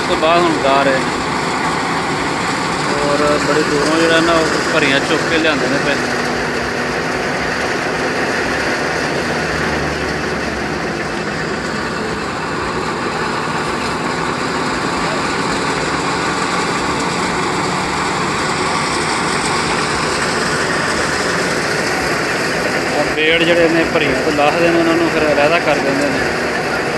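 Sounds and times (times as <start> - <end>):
wheat thresher running: 0.0 - 26.9.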